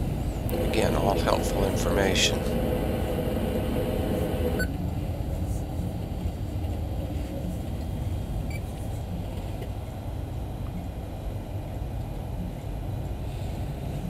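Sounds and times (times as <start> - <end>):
low machinery rumble: 0.0 - 14.0.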